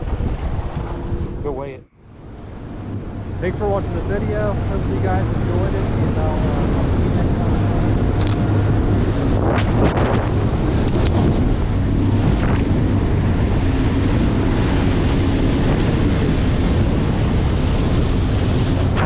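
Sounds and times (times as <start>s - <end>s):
outboard motor drone: 0.0s - 19.0s
water rushing and spray: 0.0s - 19.0s
wind buffeting microphone: 0.0s - 19.0s.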